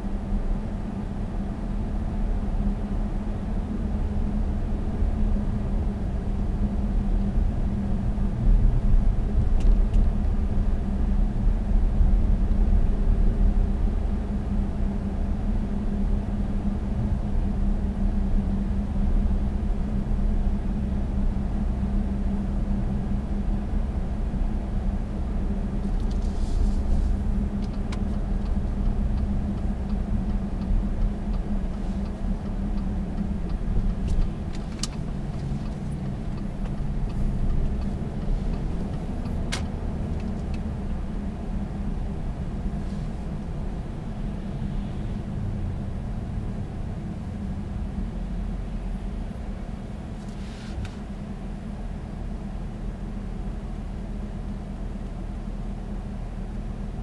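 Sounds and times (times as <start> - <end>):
diesel engine low hum in cabin: 0.0 - 57.0.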